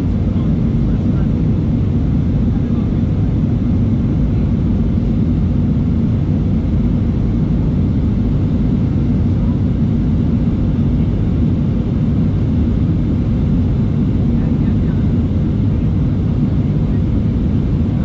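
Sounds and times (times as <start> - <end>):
jet engine cabin rumble: 0.0 - 18.0.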